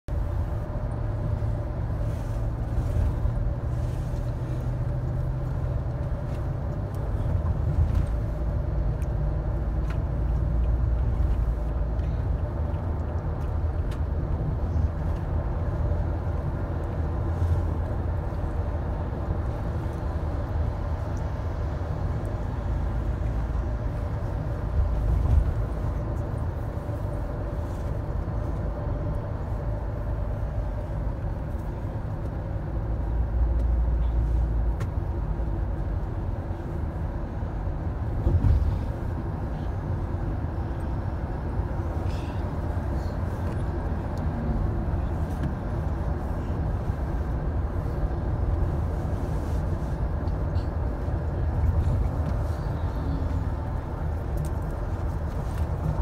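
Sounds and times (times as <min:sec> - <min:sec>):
road noise inside car: 0:00.0 - 0:56.0
car engine rumble: 0:00.1 - 0:56.0.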